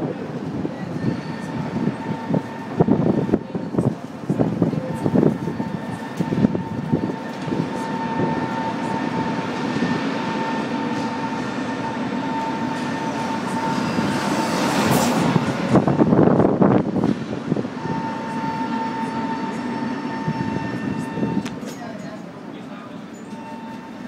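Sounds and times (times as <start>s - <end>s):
tram running on rails: 0.0s - 24.0s.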